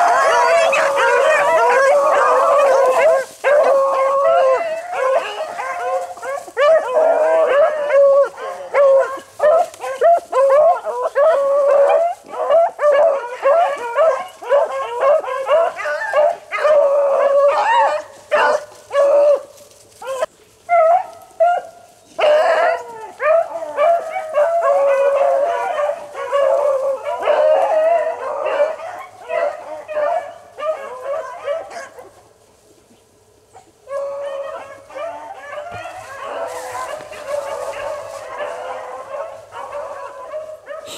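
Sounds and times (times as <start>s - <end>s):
hounds baying and howling: 0.0s - 32.5s, 33.5s - 40.9s.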